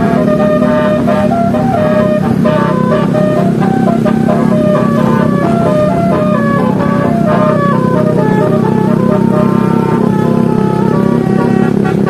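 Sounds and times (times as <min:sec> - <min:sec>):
multi-tone air horn melody: 0:00.0 - 0:12.0.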